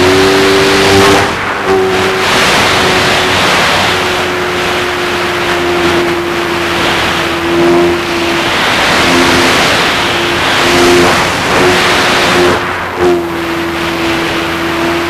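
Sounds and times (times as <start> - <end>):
model plane motor droning: 0.0 - 15.0
wind rush over microphone: 0.0 - 15.0.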